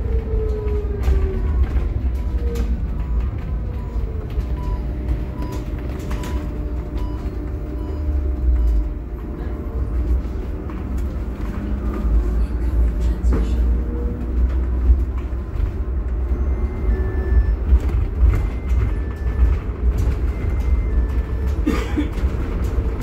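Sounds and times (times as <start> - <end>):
road rumble: 0.0 - 23.0.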